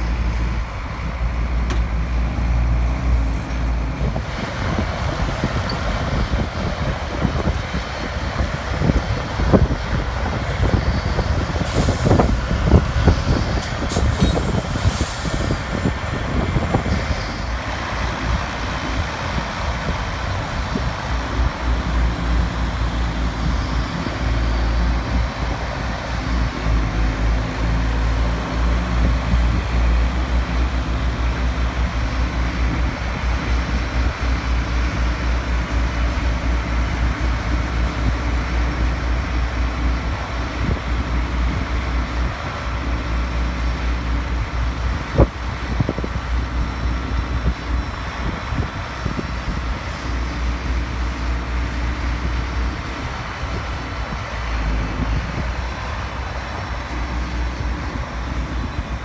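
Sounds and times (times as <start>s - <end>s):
tractor diesel engines running: 0.0s - 59.0s.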